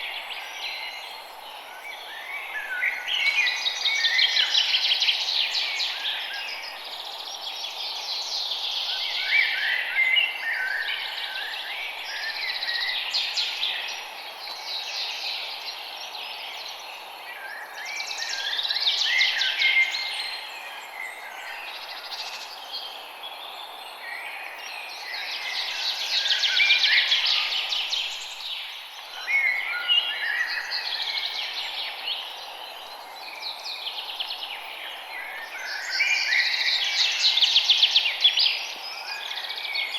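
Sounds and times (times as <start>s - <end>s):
forest birds chirping and trilling: 0.0s - 39.9s
steady background hiss: 0.0s - 39.9s.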